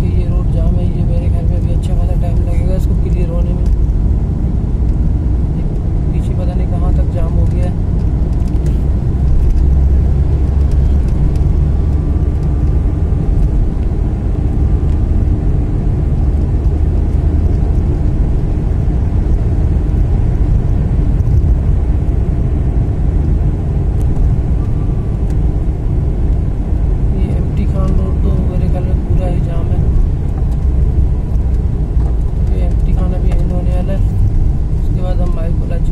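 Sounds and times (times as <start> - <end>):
road traffic rumble: 0.0 - 35.9.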